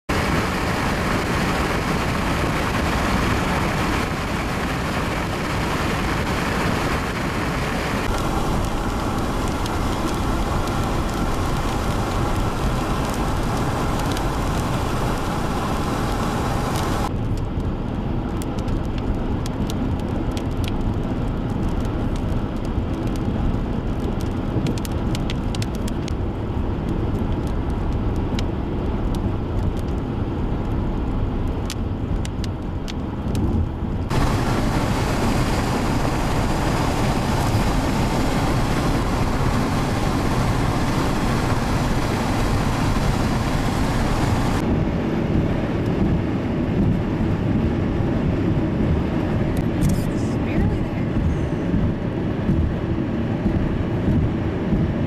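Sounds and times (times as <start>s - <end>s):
vehicle rumble: 0.0s - 55.0s
wind rumbling: 0.1s - 55.0s.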